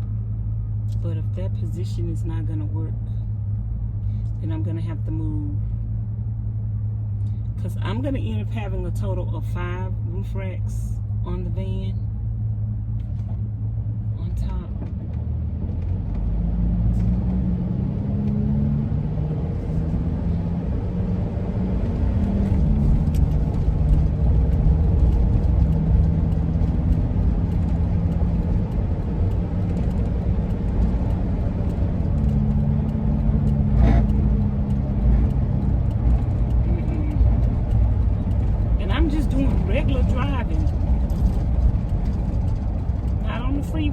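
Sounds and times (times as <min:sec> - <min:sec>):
faint shifting low tones: 0:00.0 - 0:43.9
van engine and road noise: 0:00.0 - 0:43.9.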